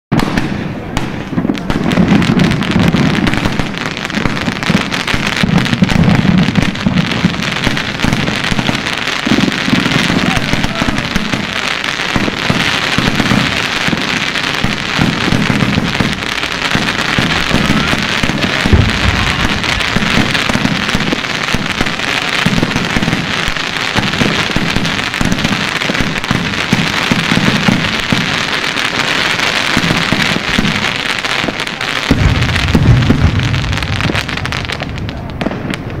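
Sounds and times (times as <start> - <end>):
dense crackle of fireworks: 0.1 - 36.0.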